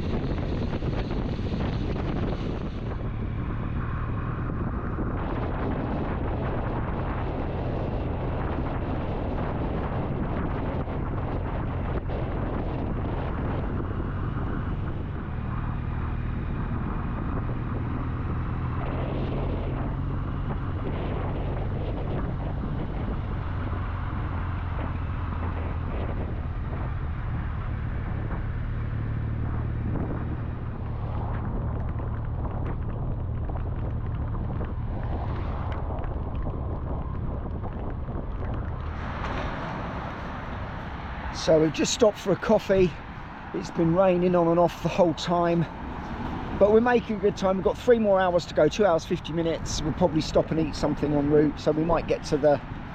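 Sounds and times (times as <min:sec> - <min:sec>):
motorcycle engine droning: 0:00.0 - 0:52.9
wind rush on microphone: 0:00.0 - 0:52.9.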